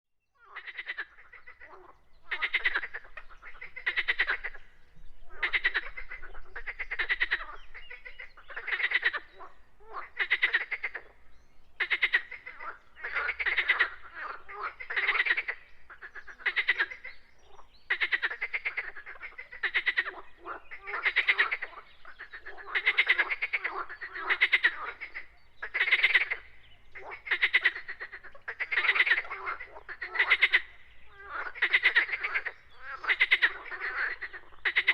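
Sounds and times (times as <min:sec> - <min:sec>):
frogs croaking: 0:00.4 - 0:34.9.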